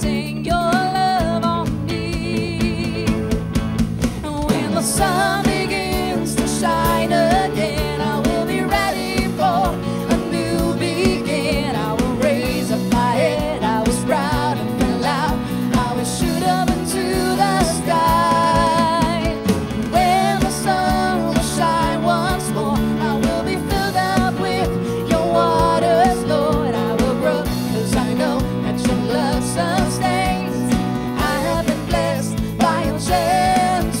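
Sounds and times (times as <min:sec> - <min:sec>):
woman singing with vibrato: 0:00.0 - 0:03.5, 0:04.1 - 0:34.0
live band playing: 0:00.0 - 0:34.0.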